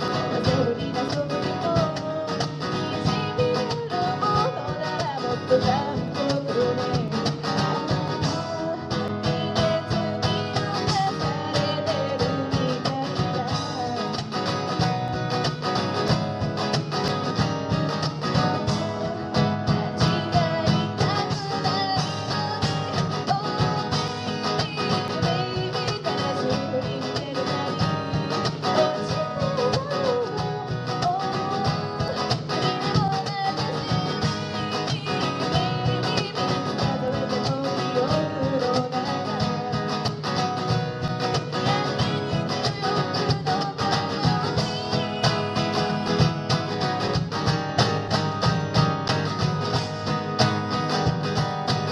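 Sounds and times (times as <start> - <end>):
acoustic guitar strumming: 0.0 - 51.9.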